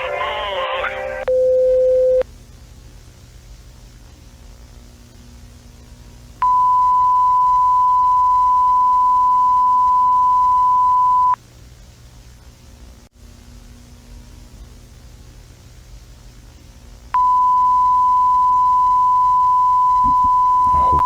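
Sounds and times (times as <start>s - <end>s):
faint low hum: 1.2s - 21.0s.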